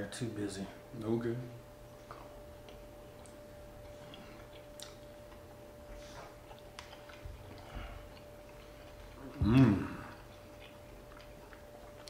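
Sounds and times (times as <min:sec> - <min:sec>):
thin steady hum: 0:00.0 - 0:12.0
faint chewing: 0:01.9 - 0:12.0.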